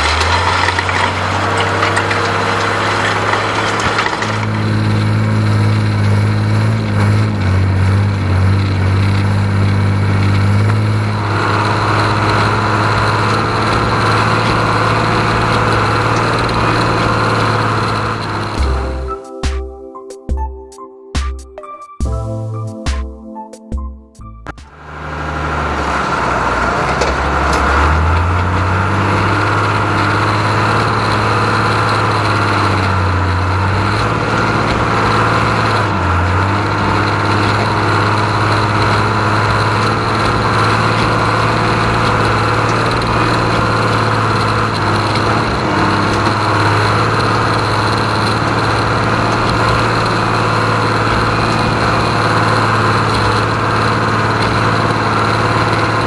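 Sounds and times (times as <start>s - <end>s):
tractor diesel engine droning: 0.0s - 19.7s, 24.2s - 56.0s.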